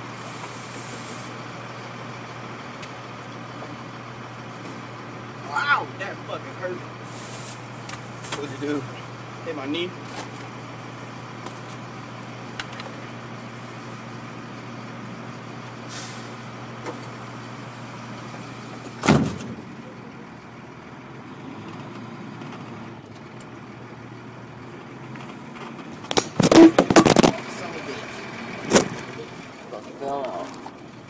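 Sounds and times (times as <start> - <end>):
truck engine idling: 0.0 - 31.0.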